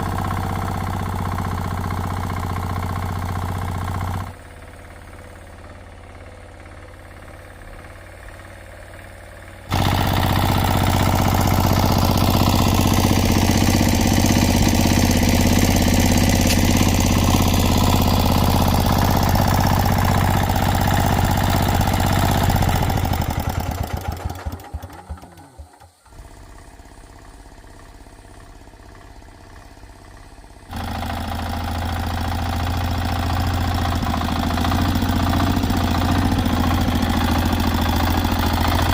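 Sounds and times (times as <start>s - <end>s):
engine winding down: 0.0s - 38.9s
small engine running: 0.0s - 38.9s.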